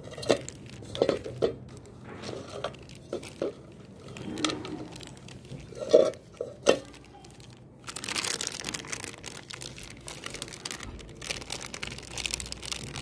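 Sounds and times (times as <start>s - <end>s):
plastic sheet crinkling: 0.0s - 13.0s.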